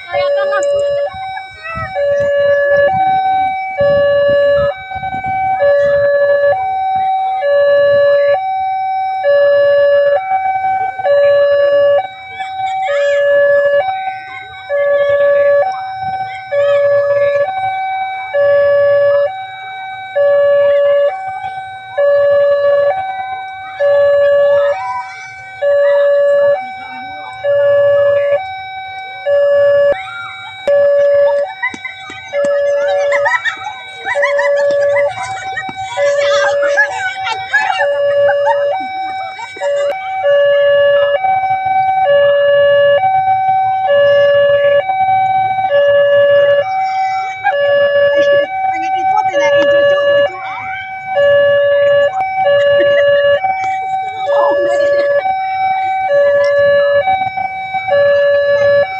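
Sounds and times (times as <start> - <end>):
two-tone electronic warning siren: 0.0 - 58.9.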